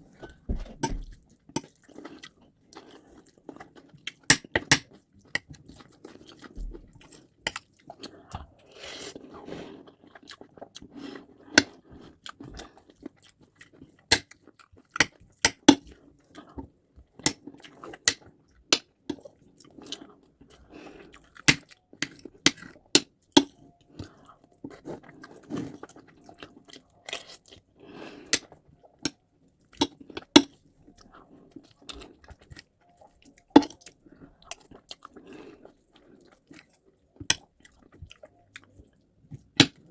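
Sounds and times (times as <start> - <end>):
chewing and swallowing: 0.0 - 39.9.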